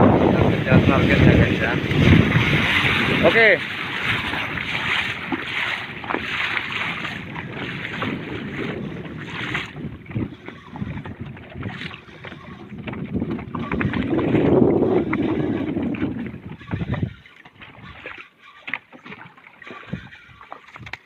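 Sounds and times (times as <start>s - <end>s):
wind buffeting microphone: 0.0s - 18.2s, 19.2s - 21.0s
boat noise: 0.0s - 21.0s
sea: 0.0s - 21.0s.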